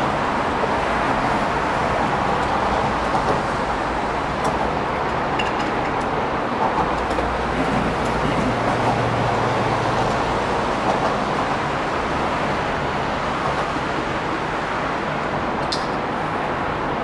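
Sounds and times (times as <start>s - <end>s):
road traffic rush: 0.0s - 17.0s.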